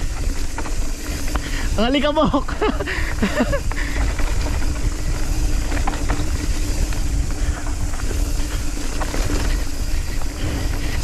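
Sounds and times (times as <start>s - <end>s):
bike knocks and rattles: 0.0s - 11.0s
bike tyres on loose dirt: 0.0s - 11.0s
wind rush on microphone: 0.0s - 11.0s.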